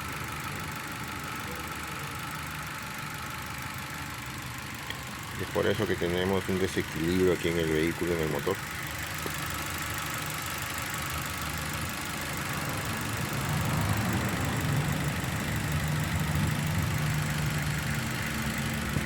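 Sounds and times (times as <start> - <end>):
engine idling unevenly with misfire: 0.0 - 19.0.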